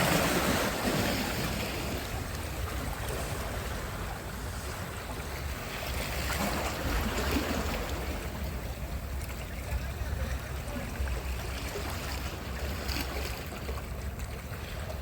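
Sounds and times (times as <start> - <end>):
surf washing onto shore: 0.0 - 15.0
wind rumbling on microphone: 0.0 - 15.0.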